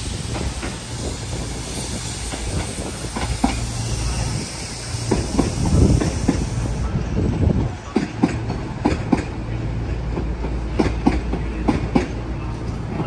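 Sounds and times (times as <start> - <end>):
train low hum: 0.0 - 13.0.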